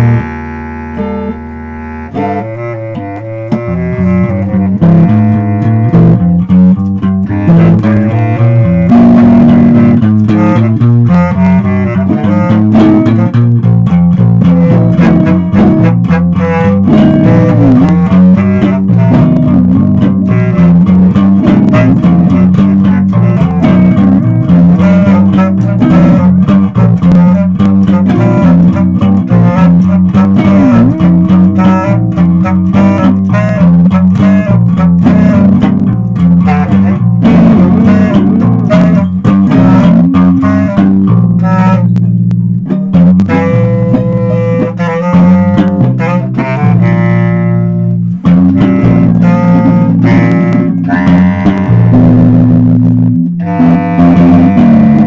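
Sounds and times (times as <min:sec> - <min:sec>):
electric bass line: 0:00.0 - 0:55.0
guitar playing: 0:00.0 - 0:55.0.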